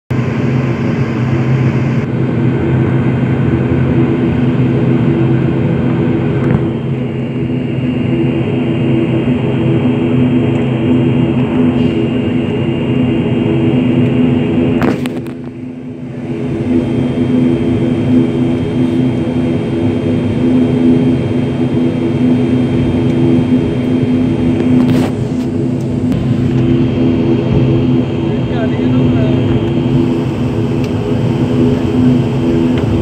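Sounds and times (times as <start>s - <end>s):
turboprop engines droning: 0.1s - 33.0s.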